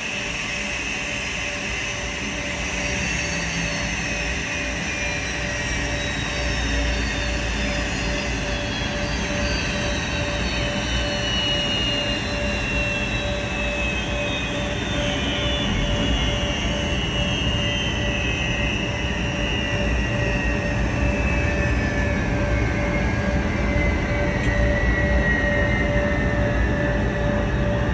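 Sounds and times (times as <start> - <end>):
jet engines idling: 0.0 - 27.9.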